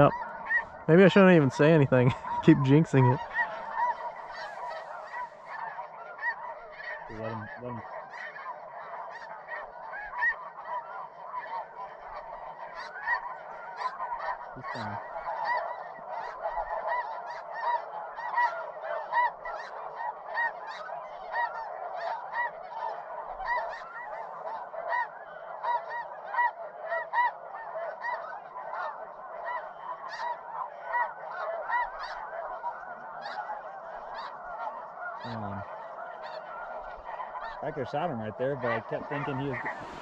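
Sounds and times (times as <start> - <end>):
geese honking: 0.0 - 40.0.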